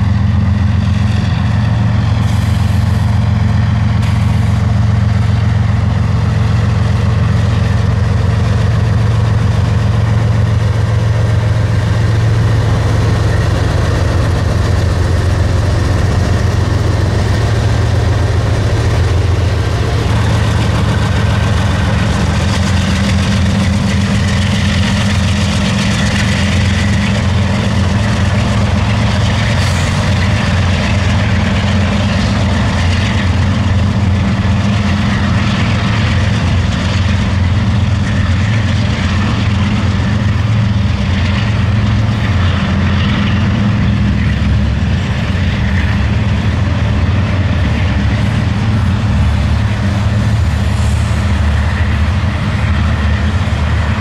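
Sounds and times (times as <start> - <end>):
freight train diesel drone: 0.0 - 54.0
train wheels rolling rush: 0.0 - 54.0.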